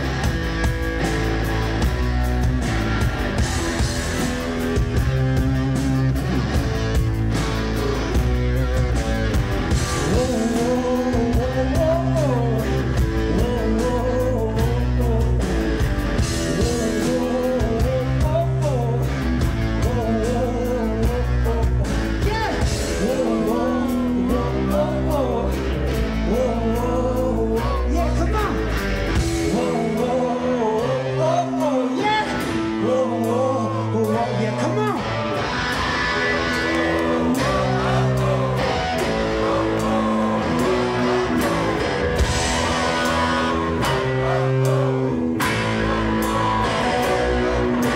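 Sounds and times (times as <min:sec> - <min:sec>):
distorted electric guitar: 0:00.0 - 0:47.9
drums: 0:00.0 - 0:47.9.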